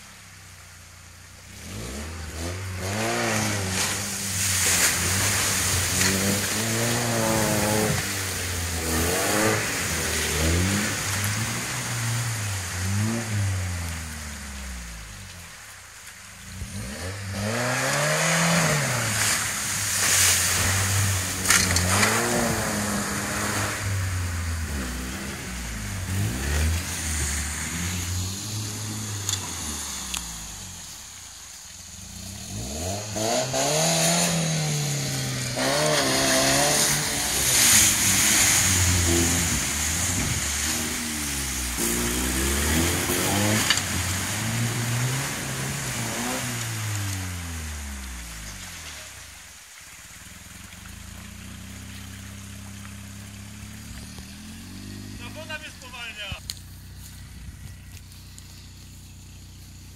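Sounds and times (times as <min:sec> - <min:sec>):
car engine revving: 0:00.0 - 0:59.9
water splashing against car: 0:00.0 - 0:59.9.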